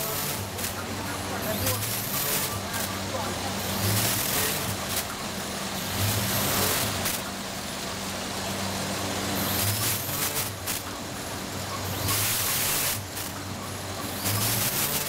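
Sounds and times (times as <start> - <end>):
machine hissing surges: 0.0 - 15.0
machine hum: 0.0 - 15.0.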